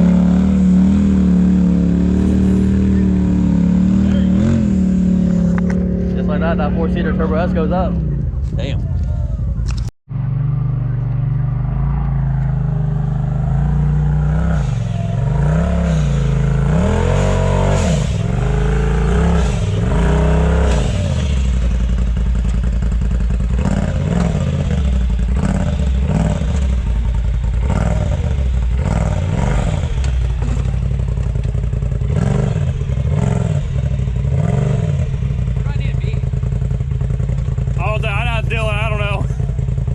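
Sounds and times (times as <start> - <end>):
utv engine revving: 0.0 - 39.9.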